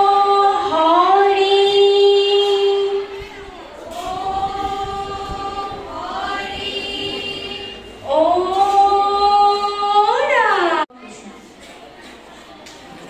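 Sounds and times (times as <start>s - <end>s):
women singing devotional chant: 0.0s - 10.9s.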